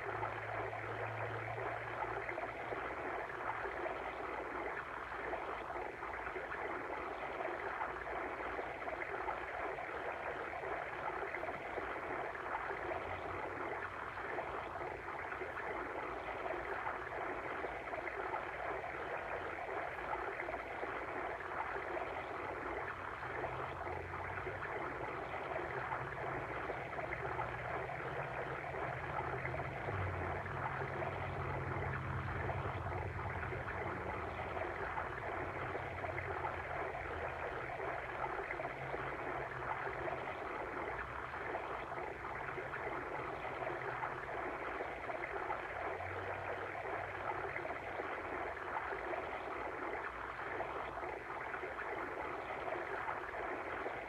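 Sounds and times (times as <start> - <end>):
water stream flowing: 0.0 - 54.0.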